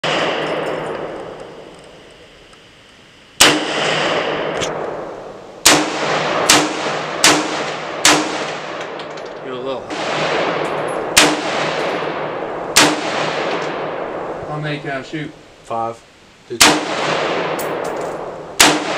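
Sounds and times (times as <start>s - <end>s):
rifle shots echoing: 0.0s - 2.0s, 3.4s - 14.8s, 16.5s - 18.9s.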